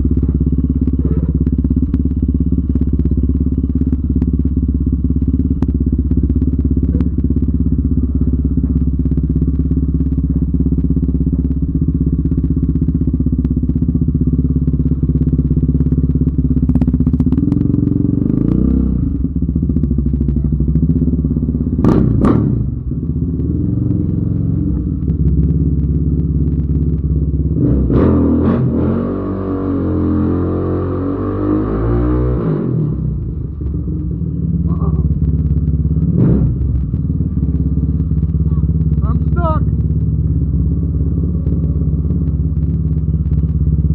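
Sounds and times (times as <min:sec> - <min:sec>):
atv engine running at low speed: 0:00.0 - 0:43.9.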